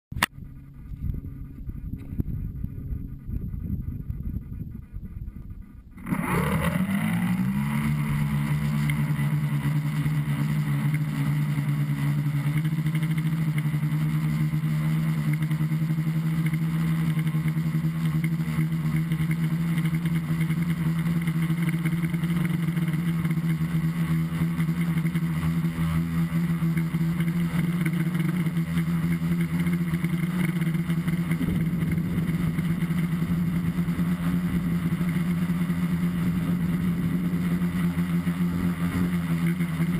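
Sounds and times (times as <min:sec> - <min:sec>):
drone motors buzzing: 0:00.1 - 0:39.9.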